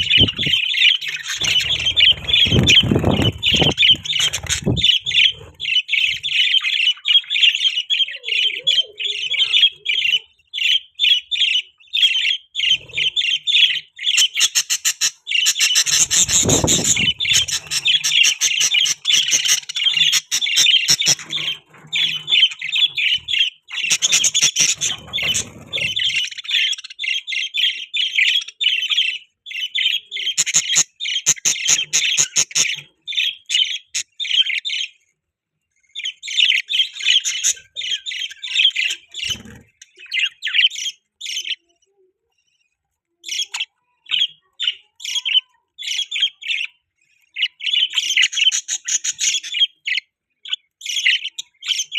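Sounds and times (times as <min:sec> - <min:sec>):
budgerigars chattering: 0:00.0 - 0:34.9, 0:36.0 - 0:41.6, 0:47.4 - 0:51.9.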